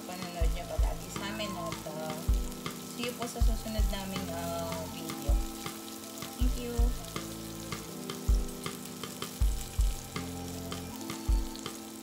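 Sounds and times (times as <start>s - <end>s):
background music with thumping beat: 0.0s - 12.0s
shrimp sizzling in oil: 0.0s - 12.0s.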